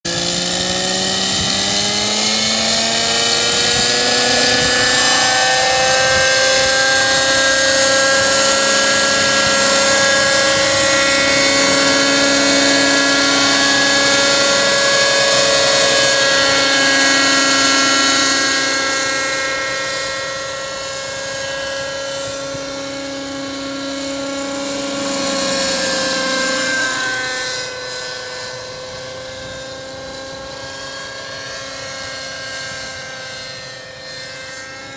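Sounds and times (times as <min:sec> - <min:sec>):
model helicopter engine whining: 0:00.0 - 0:34.9.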